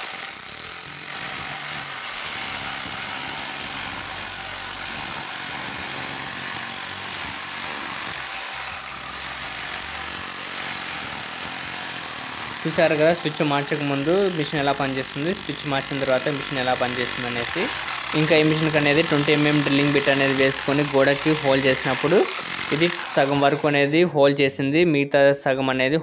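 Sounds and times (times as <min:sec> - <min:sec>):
hammer drill chiselling concrete: 0:00.0 - 0:24.2.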